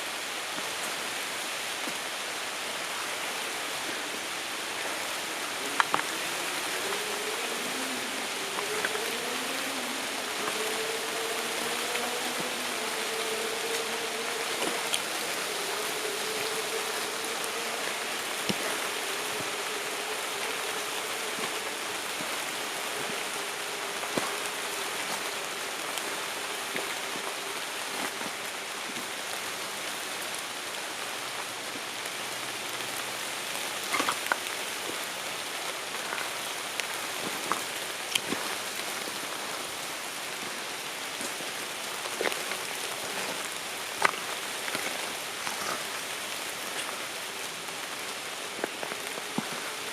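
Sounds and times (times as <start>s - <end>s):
light rain on leaves: 0.0s - 49.9s.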